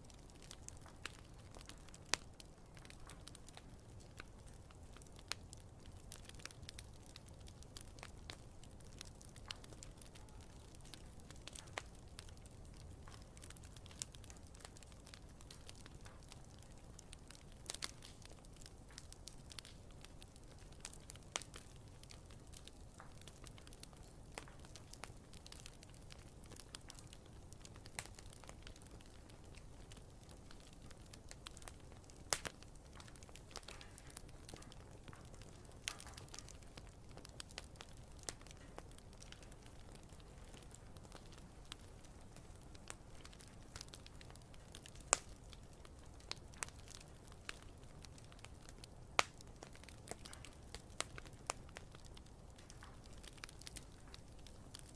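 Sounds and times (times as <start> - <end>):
campfire crackling: 0.0 - 54.9
loud fire pops: 0.4 - 54.9.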